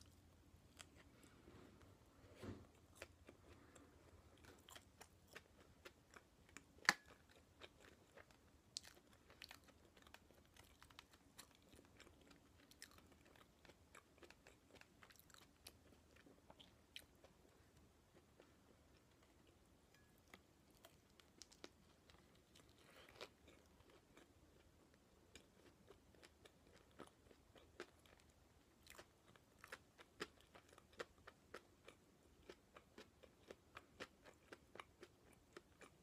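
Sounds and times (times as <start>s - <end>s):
close chewing with crunches: 0.0s - 36.0s.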